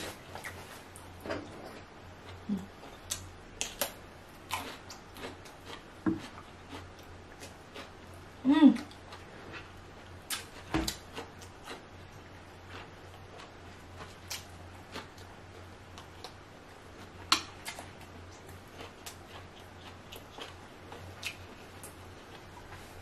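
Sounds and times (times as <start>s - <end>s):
person chewing: 0.0s - 1.1s, 1.7s - 23.0s
low steady hum: 0.0s - 23.0s.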